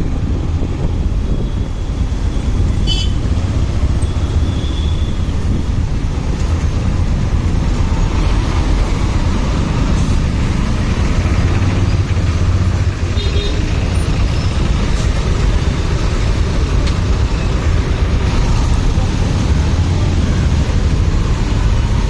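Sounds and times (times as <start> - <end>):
motorcycle engine and road rumble: 0.0 - 22.0.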